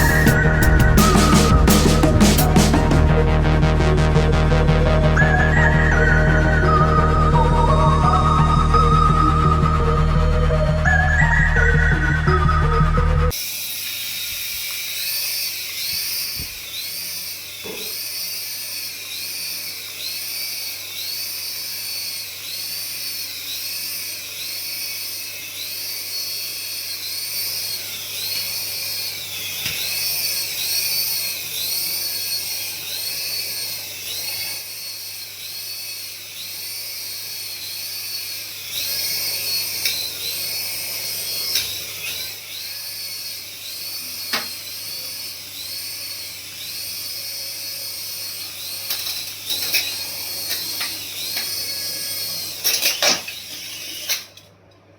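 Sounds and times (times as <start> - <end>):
toy electric motor whining: 0.0 - 3.8, 4.4 - 54.6.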